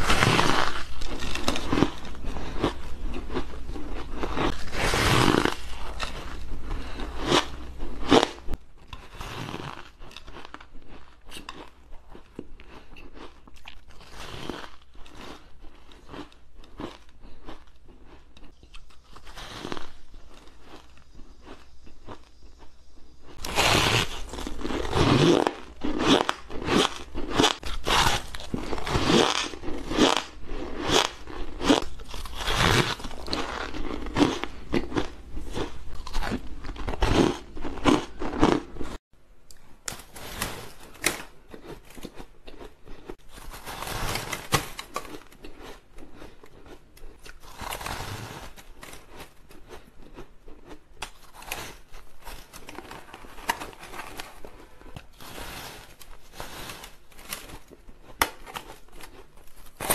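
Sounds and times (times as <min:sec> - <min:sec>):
chewing crunchy shaved ice: 0:00.0 - 0:39.0, 0:40.2 - 0:59.9.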